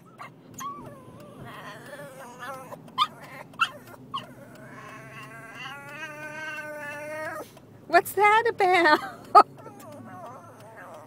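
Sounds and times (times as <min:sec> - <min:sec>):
dog whining: 0:00.0 - 0:07.6, 0:09.4 - 0:11.0
dog yelping: 0:00.0 - 0:07.6, 0:09.4 - 0:11.0.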